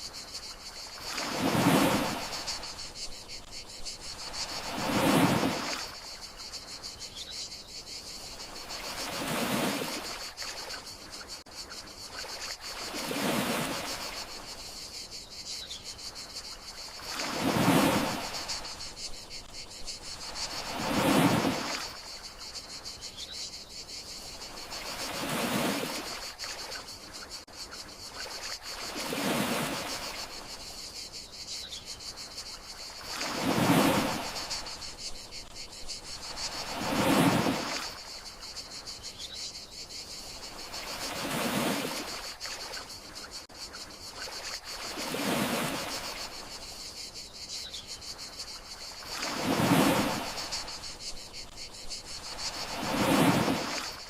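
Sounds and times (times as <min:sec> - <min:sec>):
gentle sea waves washing in: 0:00.0 - 0:06.8, 0:08.0 - 0:14.8, 0:16.2 - 0:22.8, 0:24.2 - 0:27.5, 0:28.1 - 0:30.8, 0:32.2 - 0:38.9, 0:40.2 - 0:43.5, 0:44.1 - 0:46.8, 0:48.3 - 0:54.0
crickets chirring: 0:00.0 - 0:54.0.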